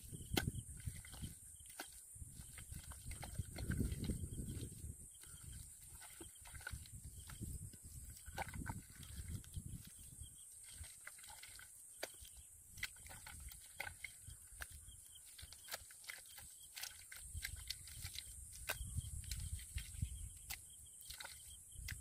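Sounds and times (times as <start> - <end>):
wet mud squelching: 0.0 - 22.0.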